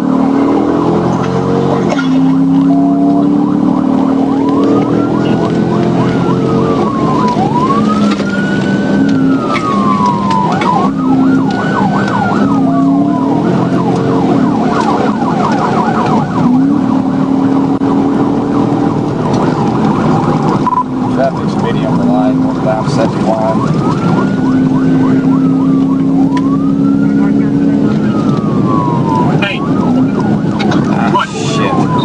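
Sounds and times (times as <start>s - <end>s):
patrol car running: 0.0s - 32.0s
police siren wailing and yelping: 0.0s - 32.0s.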